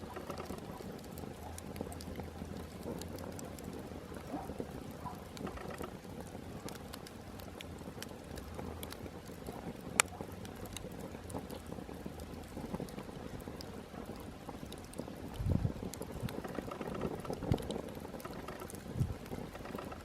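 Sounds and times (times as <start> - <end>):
campfire crackling: 0.0 - 20.0
sharp pops from fire: 0.0 - 20.0.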